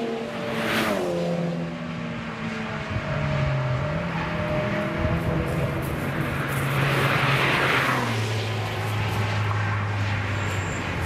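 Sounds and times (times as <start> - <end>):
race car passing at speed: 0.0 - 11.0.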